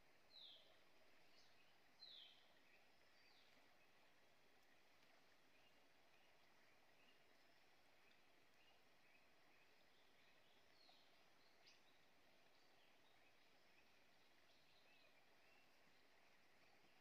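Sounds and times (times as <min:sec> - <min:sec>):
faint forest ambience: 0:00.0 - 0:17.0.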